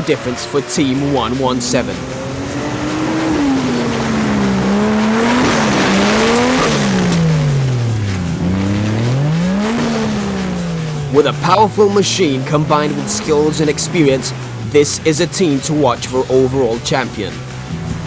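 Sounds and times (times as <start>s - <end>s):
engine revving hard: 0.0s - 18.0s.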